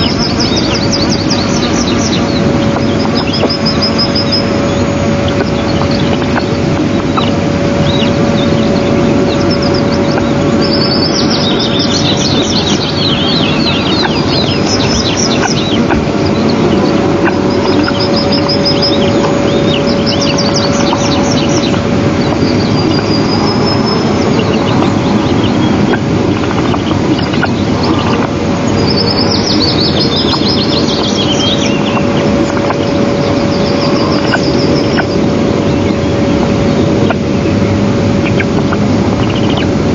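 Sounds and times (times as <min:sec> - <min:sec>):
high bird chirping: 0:00.0 - 0:37.6, 0:38.2 - 0:39.8
low hum: 0:00.0 - 0:39.9
steady rushing noise: 0:00.0 - 0:39.9.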